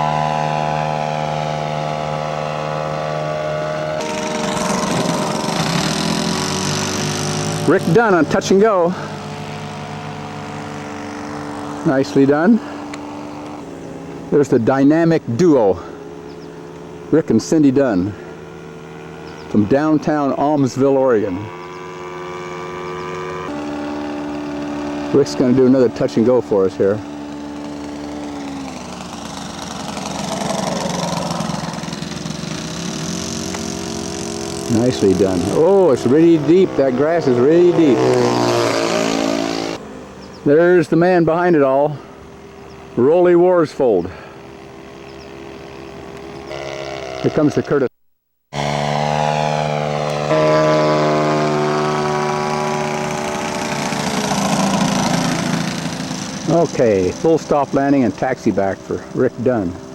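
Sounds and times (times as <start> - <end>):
model airplane engine: 0.0 - 47.9, 48.5 - 59.9.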